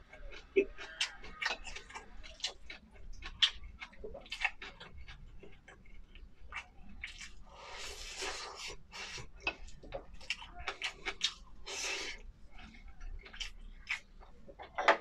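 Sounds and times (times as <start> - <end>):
chewing with wet clicks and smacks: 0.0 - 15.0.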